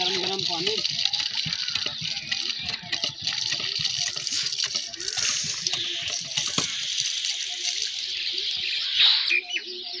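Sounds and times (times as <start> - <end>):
water splashing from hand pump: 0.0 - 8.8.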